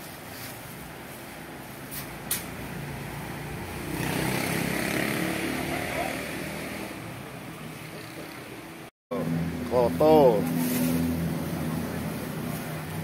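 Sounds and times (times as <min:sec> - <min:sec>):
engine passing by: 0:02.0 - 0:13.0.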